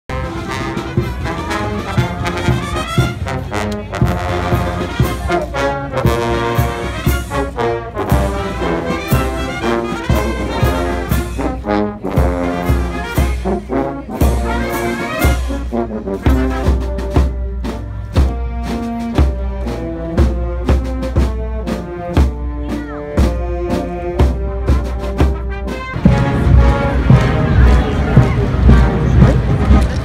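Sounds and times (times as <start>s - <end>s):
brass band playing a march: 0.1s - 30.0s.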